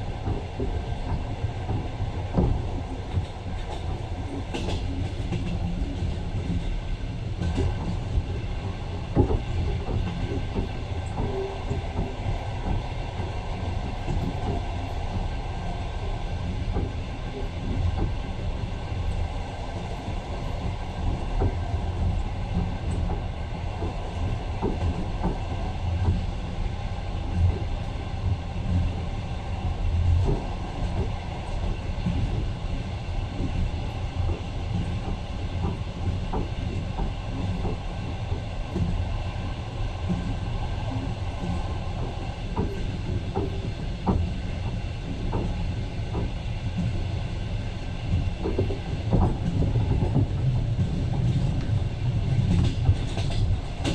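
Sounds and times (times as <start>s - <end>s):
train rumbling inside carriage: 0.0s - 53.9s.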